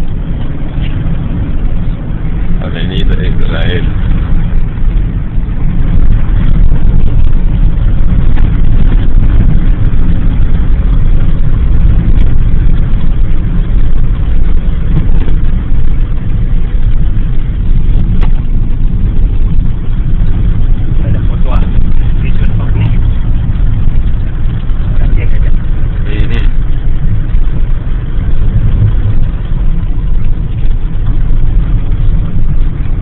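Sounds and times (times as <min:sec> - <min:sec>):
car road and engine rumble: 0:00.0 - 0:33.0.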